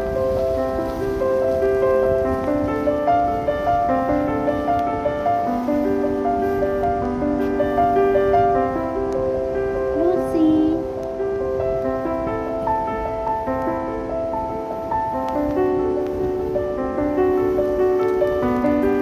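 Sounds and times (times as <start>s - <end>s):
lullaby music on keyboard: 0.0s - 19.0s.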